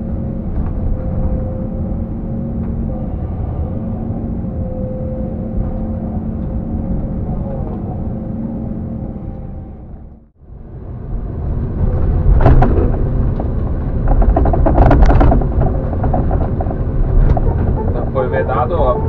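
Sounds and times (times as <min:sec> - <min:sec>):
excavator diesel engine rumble: 0:00.0 - 0:19.0.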